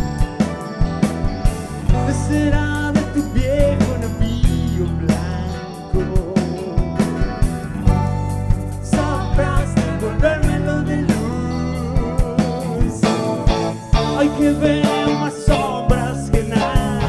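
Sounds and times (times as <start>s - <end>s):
bass guitar: 0.0s - 17.0s
drum kit: 0.0s - 17.0s
electric guitar: 0.0s - 17.0s
keyboard: 0.0s - 17.0s.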